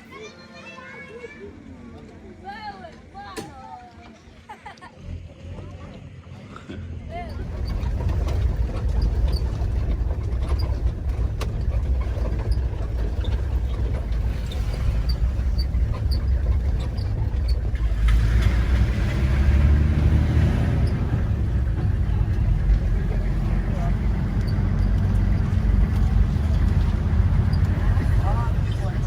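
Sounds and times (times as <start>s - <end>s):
vehicle engine and road rumble: 4.7s - 29.0s.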